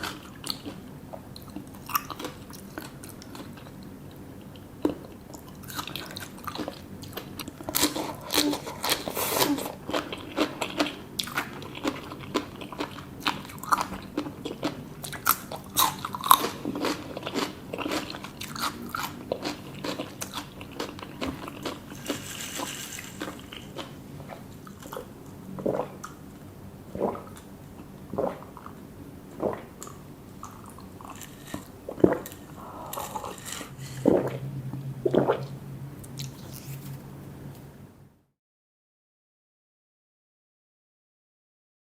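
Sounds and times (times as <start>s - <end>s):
low steady hum: 0.0s - 38.3s.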